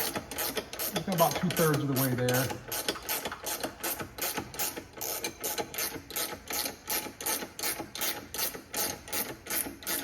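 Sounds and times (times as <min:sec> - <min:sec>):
ratcheting wrench clicking: 0:00.0 - 0:10.0.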